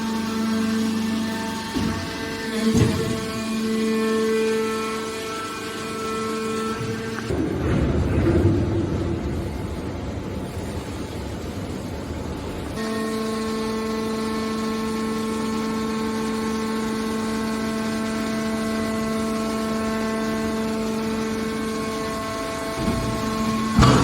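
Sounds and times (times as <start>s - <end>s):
rough machine rumble: 0.0s - 24.0s
steady hydraulic motor hum: 0.0s - 24.0s.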